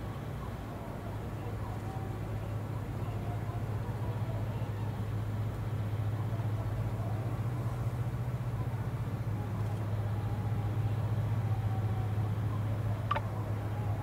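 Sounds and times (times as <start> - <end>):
ship engine hum: 0.0 - 14.0.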